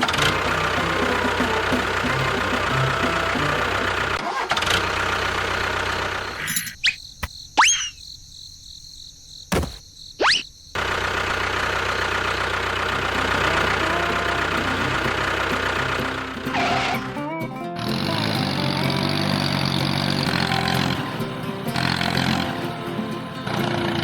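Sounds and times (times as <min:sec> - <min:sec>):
engine running: 0:00.0 - 0:06.8, 0:10.8 - 0:24.0.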